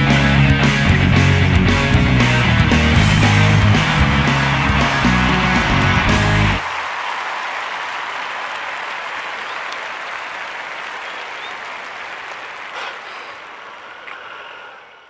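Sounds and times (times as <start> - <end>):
audience applauding: 0.8 - 15.0.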